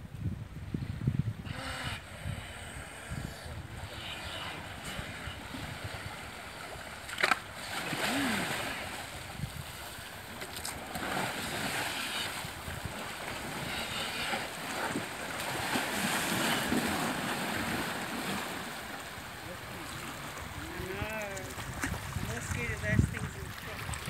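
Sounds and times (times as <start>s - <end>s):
water splashing and churning: 1.0s - 24.0s.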